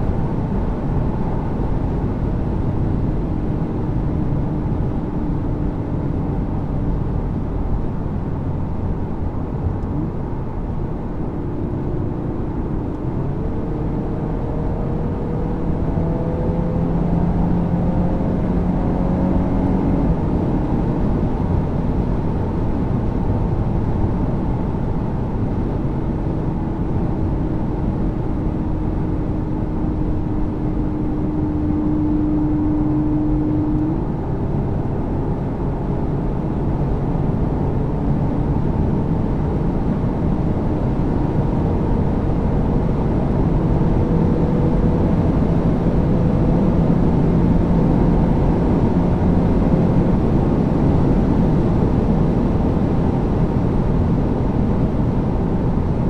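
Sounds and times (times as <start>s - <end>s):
car engine hum: 0.0s - 56.0s
road and tyre rumble: 0.0s - 56.0s.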